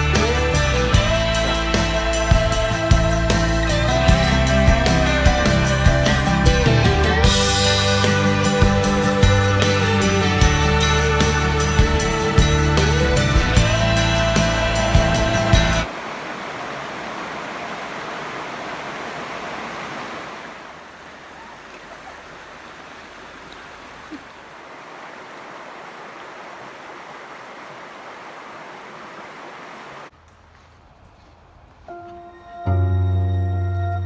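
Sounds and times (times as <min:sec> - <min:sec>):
running water rushing: 0:00.0 - 0:30.1.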